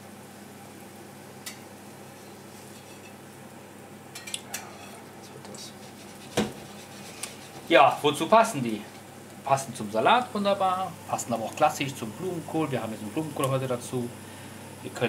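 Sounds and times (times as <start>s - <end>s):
frying oil hiss: 0.0s - 4.2s, 5.0s - 15.0s.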